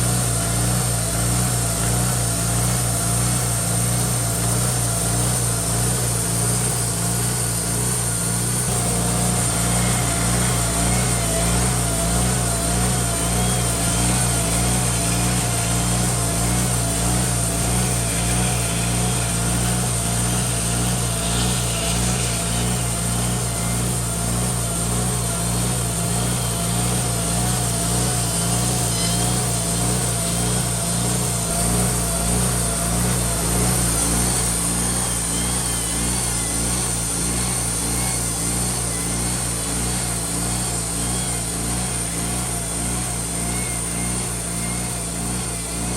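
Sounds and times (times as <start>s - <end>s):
sawmill engine running: 0.0s - 45.9s
faint wavering whine: 5.4s - 45.9s.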